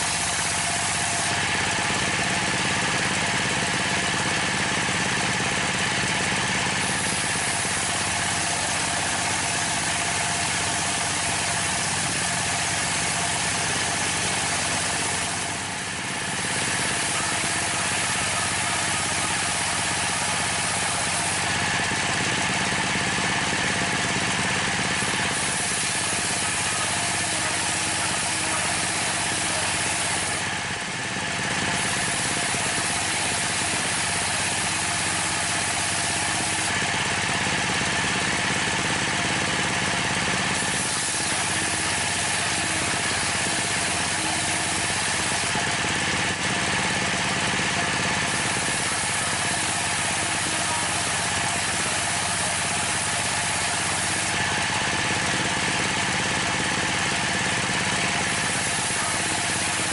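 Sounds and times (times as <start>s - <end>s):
circular saw ripping wood: 0.0s - 2.1s, 6.7s - 23.6s, 24.6s - 59.9s
diesel engine running: 0.0s - 59.9s.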